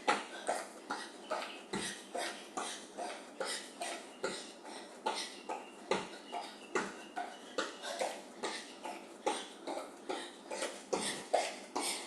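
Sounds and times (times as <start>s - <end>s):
footfalls of jumping jacks: 0.0s - 12.0s.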